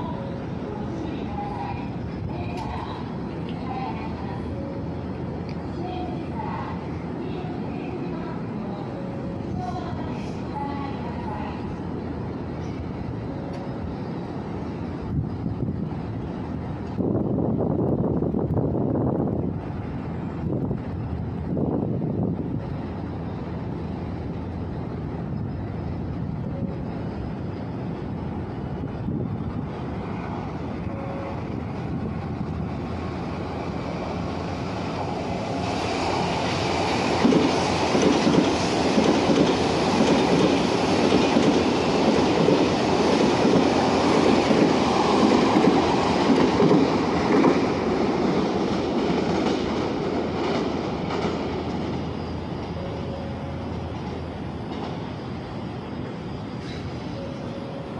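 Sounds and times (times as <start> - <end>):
electric train passing: 0.0 - 57.9.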